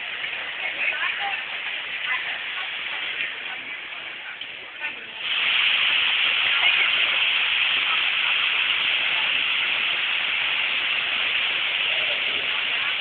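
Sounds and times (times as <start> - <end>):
loud steady hissing: 0.0 - 13.0.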